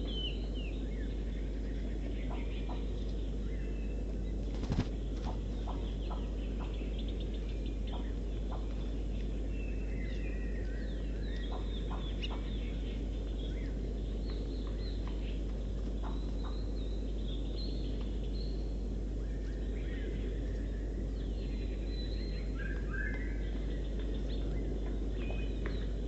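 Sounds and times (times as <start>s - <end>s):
birds chirping slowed down: 0.0s - 26.0s
steady low background noise: 0.0s - 26.0s.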